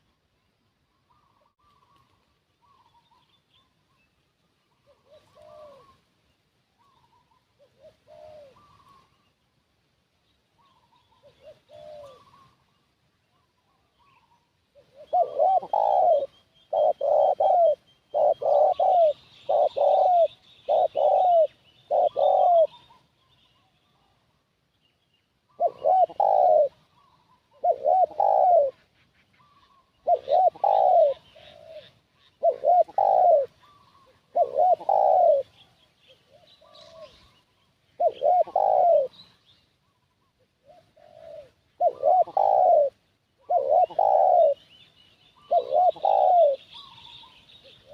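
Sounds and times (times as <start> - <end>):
dove cooing: 1.0 - 3.3, 4.6 - 6.1, 6.8 - 9.4, 10.6 - 24.1, 25.5 - 47.9.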